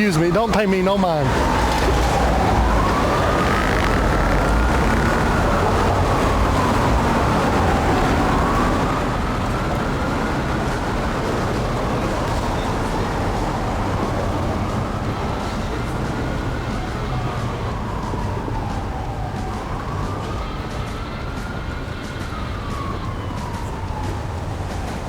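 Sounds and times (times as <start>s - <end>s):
emergency siren wailing: 0.0s - 25.0s
road traffic rumbling: 0.0s - 25.0s.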